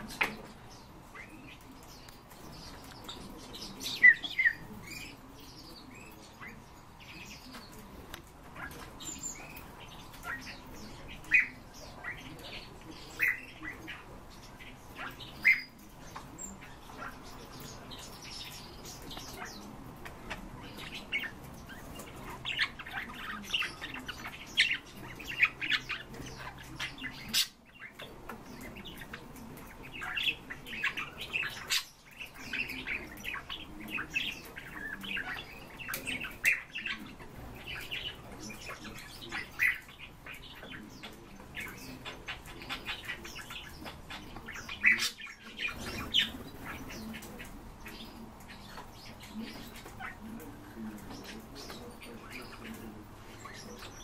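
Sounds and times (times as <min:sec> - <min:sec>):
finches chirping: 0:00.0 - 0:54.0.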